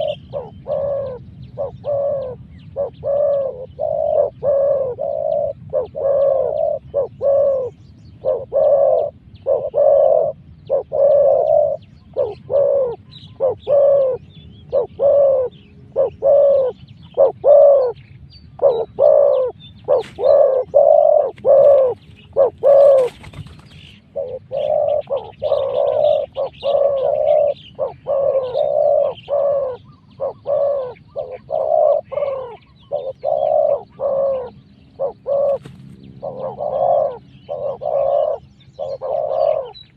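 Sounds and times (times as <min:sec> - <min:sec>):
dove cooing: 0:00.0 - 0:18.0, 0:18.6 - 0:39.9.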